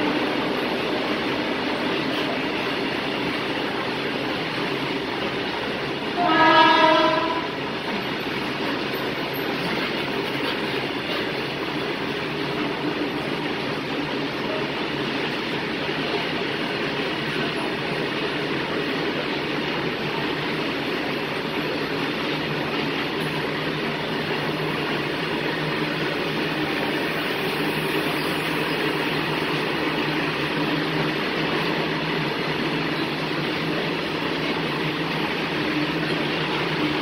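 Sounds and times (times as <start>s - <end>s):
freight train wheels on track: 0.0s - 37.0s.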